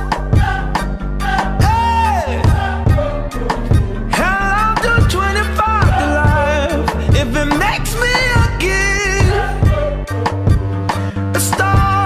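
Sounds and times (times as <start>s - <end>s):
drum beat: 0.0s - 10.8s, 11.5s - 12.0s
bass line: 0.0s - 12.0s
person singing: 0.0s - 12.0s.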